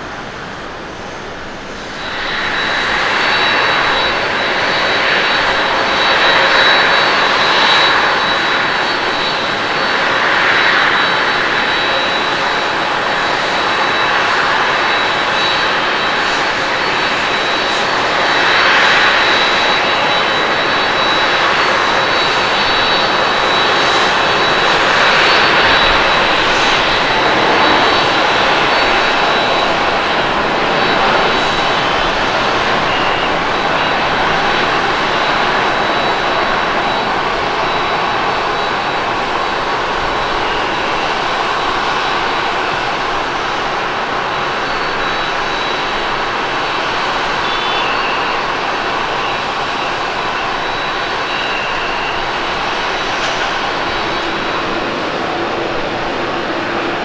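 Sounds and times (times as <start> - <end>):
high jet whine: 0.0 - 57.0
jet engine roar: 0.0 - 57.0.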